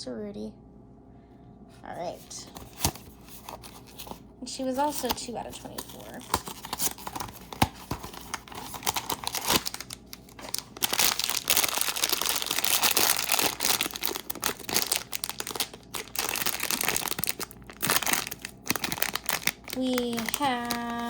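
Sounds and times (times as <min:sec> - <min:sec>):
packaging crinkling and tearing: 0:02.2 - 0:21.0.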